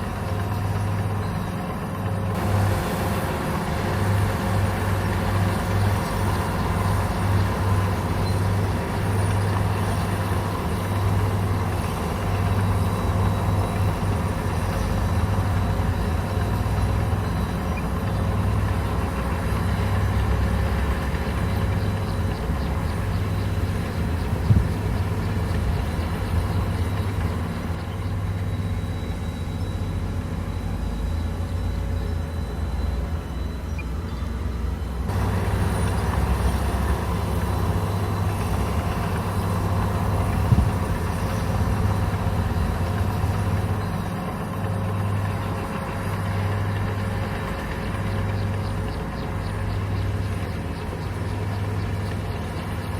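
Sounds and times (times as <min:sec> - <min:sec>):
bulldozer diesel engine humming: 0:00.0 - 0:52.9.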